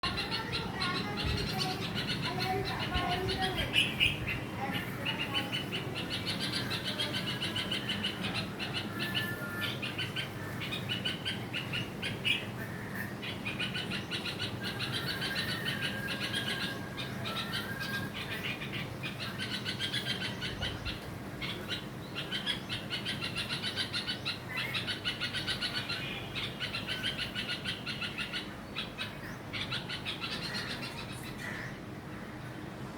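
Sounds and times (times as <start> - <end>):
bird alarm calls chattering: 0.0 - 31.8.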